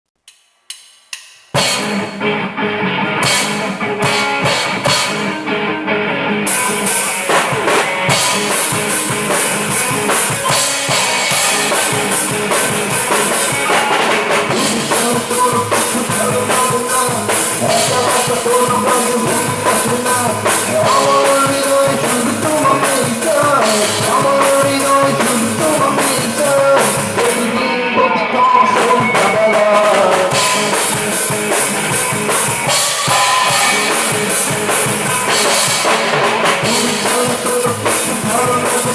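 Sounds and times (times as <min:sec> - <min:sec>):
drum kit: 0:00.2 - 0:05.7, 0:06.4 - 0:38.9
electric guitars: 0:01.6 - 0:38.9.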